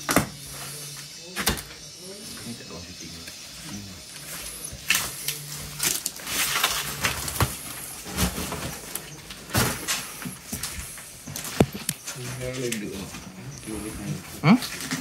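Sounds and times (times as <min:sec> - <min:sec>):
people moving and handling things: 0:00.0 - 0:15.0.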